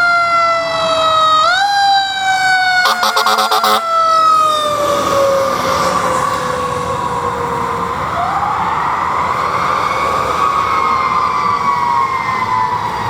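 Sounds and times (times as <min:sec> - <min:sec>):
emergency vehicle siren wailing: 0:00.0 - 0:13.0
traffic noise: 0:00.0 - 0:13.0.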